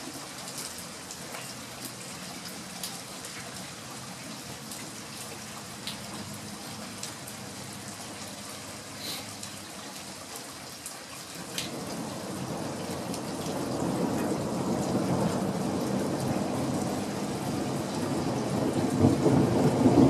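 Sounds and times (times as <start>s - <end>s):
sharp drips and taps: 0.0s - 17.0s
rain on eaves and gutters: 0.0s - 20.0s.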